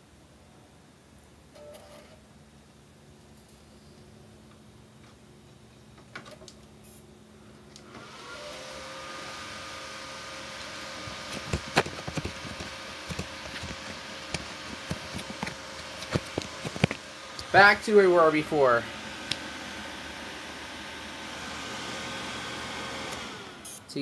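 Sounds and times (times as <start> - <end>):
computer fans whirring: 2.4 - 24.0.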